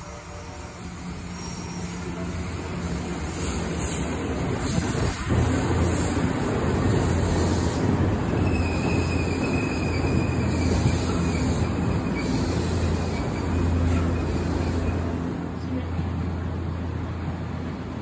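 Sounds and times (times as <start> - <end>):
train rumbling slowly: 0.0 - 18.0.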